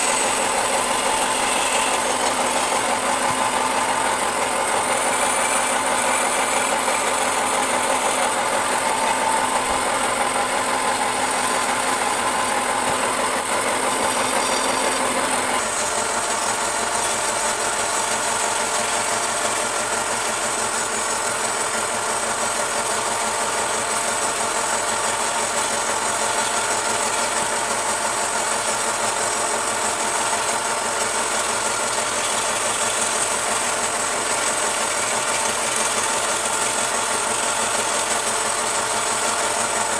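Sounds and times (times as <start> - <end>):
chisel scraping spinning wood: 0.0 - 39.9
wood lathe motor running: 0.0 - 39.9.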